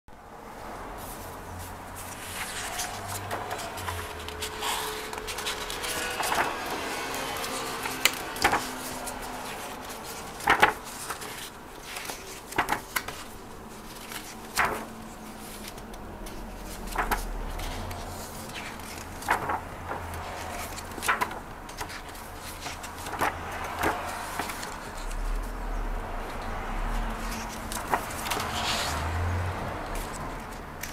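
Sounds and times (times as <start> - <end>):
book pages being turned: 0.6 - 25.7, 26.3 - 30.9.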